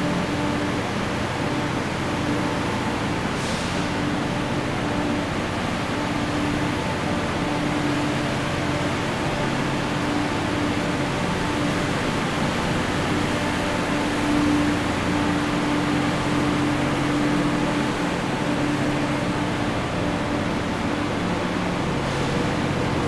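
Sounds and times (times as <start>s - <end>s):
passenger train humming: 0.0s - 23.0s.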